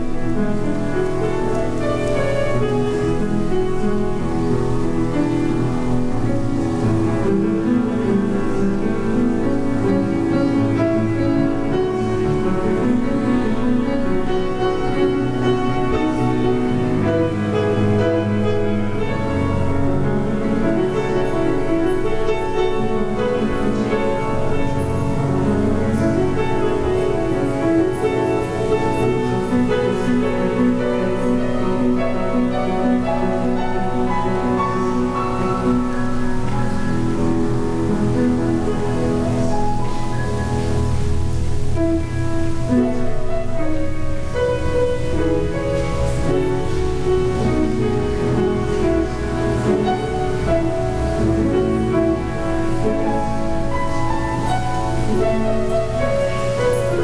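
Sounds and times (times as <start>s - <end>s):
slow piano piece: 0.0s - 57.0s.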